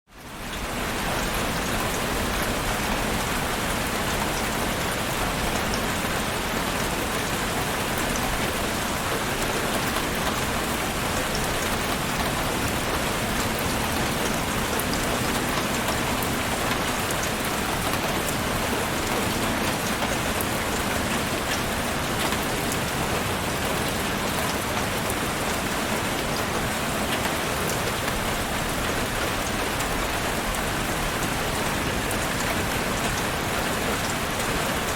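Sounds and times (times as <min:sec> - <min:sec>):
heavy rain falling: 0:00.1 - 0:34.9.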